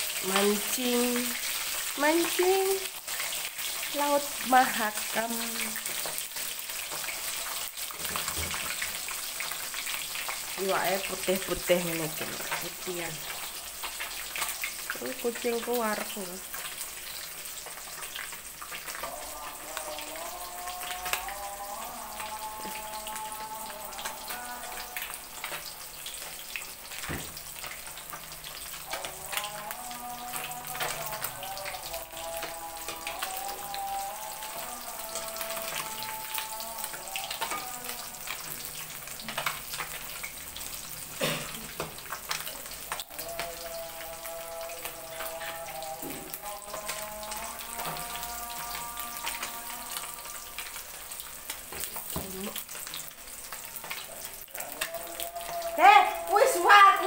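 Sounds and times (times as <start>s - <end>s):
fish deep-frying in hot oil: 0.0s - 57.0s
oil crackling and popping: 0.0s - 57.0s.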